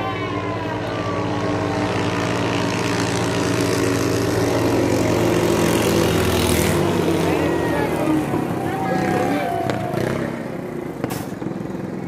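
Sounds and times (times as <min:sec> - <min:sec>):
longtail boat engine high-revving: 0:01.0 - 0:11.0.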